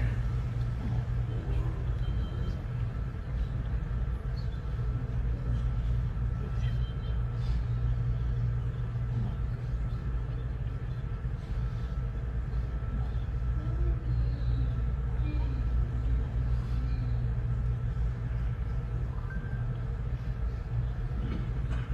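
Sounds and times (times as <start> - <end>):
faint high hum: 0.0 - 21.9
steady low rumble: 0.0 - 21.9.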